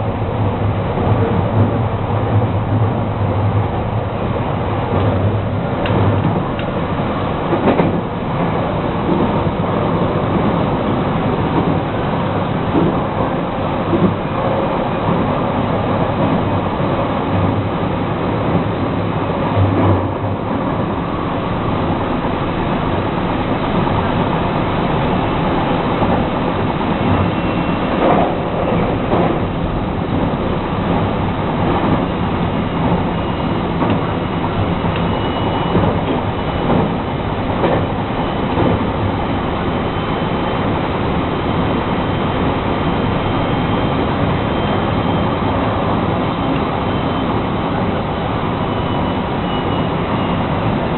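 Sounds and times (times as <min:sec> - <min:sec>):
train rolling rumble: 0:00.0 - 0:50.9.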